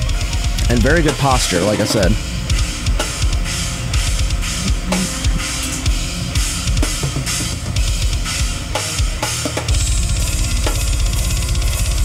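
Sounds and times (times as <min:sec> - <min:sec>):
drum kit played fast: 0:00.0 - 0:12.0
rapid double bass drums: 0:00.0 - 0:12.0.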